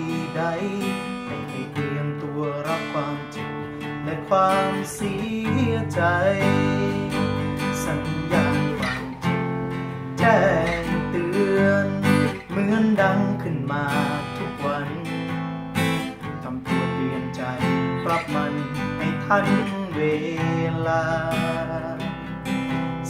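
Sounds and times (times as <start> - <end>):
acoustic guitar strumming: 0.0 - 23.0
man singing: 0.0 - 23.0.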